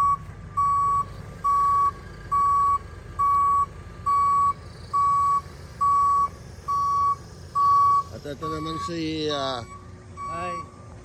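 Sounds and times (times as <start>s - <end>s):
diesel engine rumbling: 0.0s - 11.0s
reversing vehicle back-up beeps: 0.0s - 11.0s.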